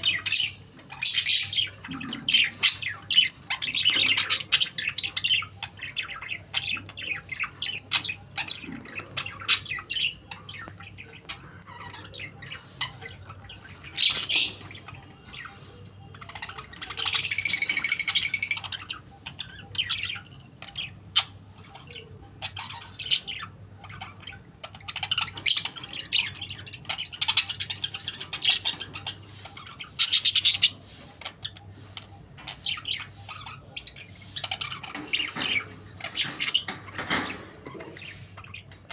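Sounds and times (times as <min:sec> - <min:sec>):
budgerigar chirping and clicking: 0:00.0 - 0:38.9.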